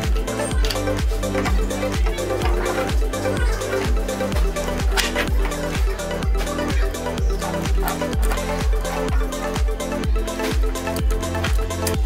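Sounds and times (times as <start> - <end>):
electronic music with kick drum: 0.0 - 12.0.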